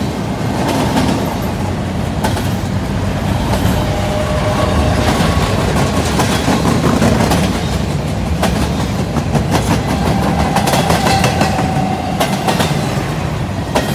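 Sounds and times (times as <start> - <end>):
steel wheels rumbling on rail: 0.0 - 13.9.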